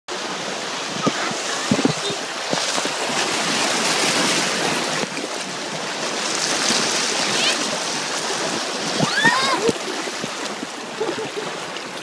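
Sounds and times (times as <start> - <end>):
water splashes: 0.1 - 12.0
white water rushing: 0.1 - 12.0.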